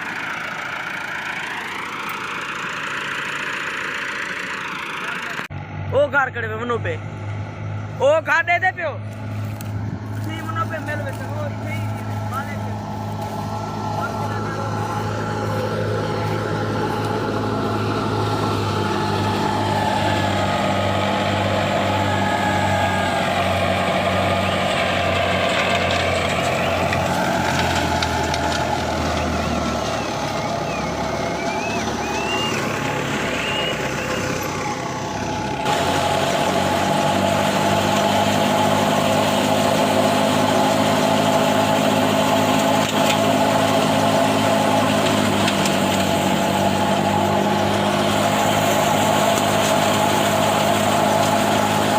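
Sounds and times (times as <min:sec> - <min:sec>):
large engine running: 0:00.0 - 0:51.9.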